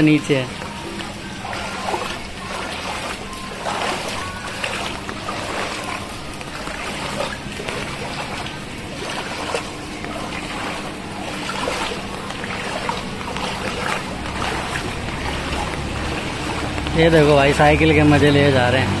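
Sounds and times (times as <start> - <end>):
feet wading through water: 0.0 - 19.0
low steady hum: 0.0 - 19.0.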